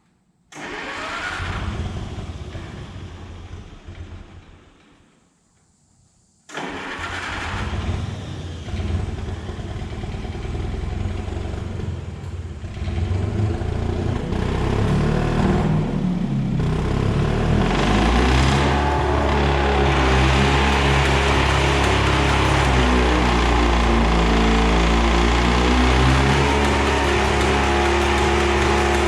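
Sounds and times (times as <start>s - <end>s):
diesel engine cranking and running: 0.6s - 4.6s, 6.5s - 29.0s.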